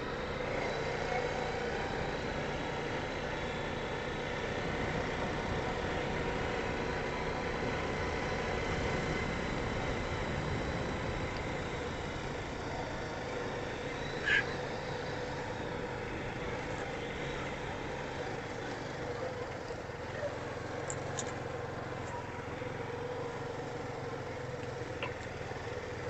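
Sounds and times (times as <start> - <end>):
atv engine idling: 0.0 - 26.0.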